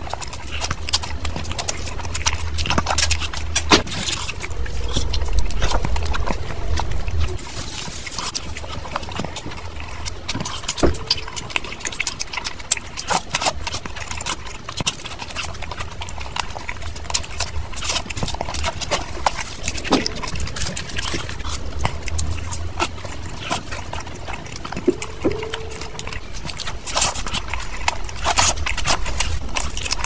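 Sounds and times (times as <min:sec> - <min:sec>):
woman chewing and smacking lips: 0:00.0 - 0:30.0.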